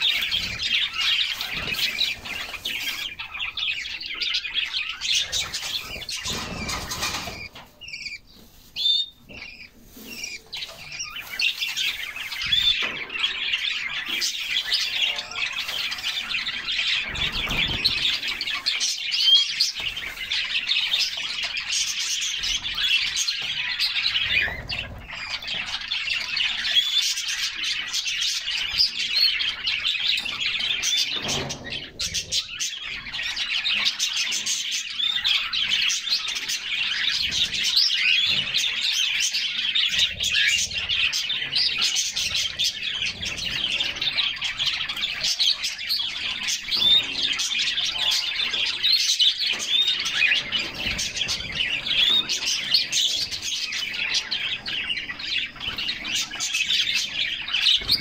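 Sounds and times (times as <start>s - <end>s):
canaries singing: 0.0s - 58.0s.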